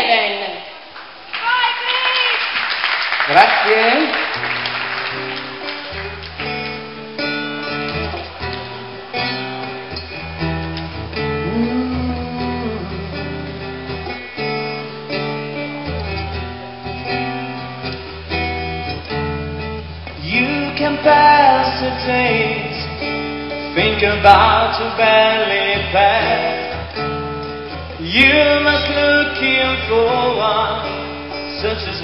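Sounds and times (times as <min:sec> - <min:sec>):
acoustic guitar strumming chords: 0:04.2 - 0:32.0.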